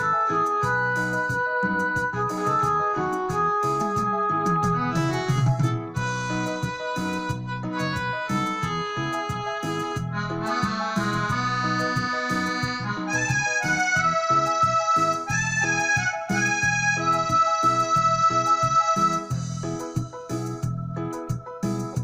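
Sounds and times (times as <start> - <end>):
accordion melody on keyboard: 0.0 - 22.0
bass: 0.0 - 22.0
steady beat: 0.0 - 22.0.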